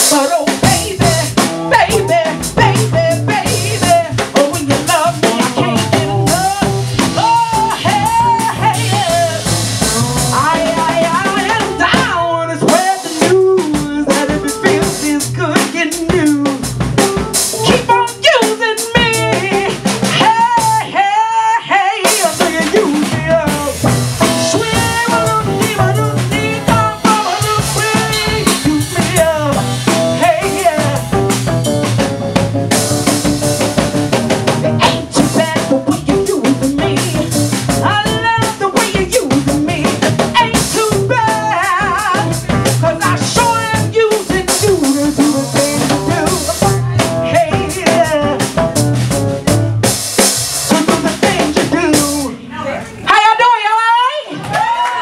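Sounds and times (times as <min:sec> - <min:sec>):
woman singing into a microphone: 0:00.0 - 0:16.7, 0:17.6 - 0:31.1, 0:34.8 - 0:48.5, 0:50.7 - 0:54.8
electric bass: 0:00.0 - 0:20.9, 0:22.2 - 0:53.1
drum kit playing: 0:00.0 - 0:53.4.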